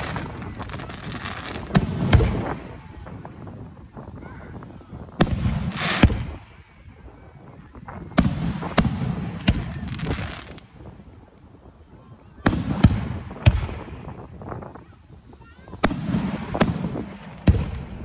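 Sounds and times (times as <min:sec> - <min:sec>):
hissing crackle of fireworks: 0:00.0 - 0:18.0.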